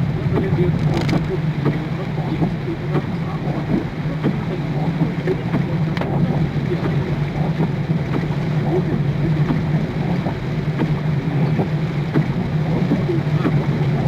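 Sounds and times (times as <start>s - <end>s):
heavy rain on car roof: 0.0s - 14.0s
low drone of moving car: 0.0s - 14.0s.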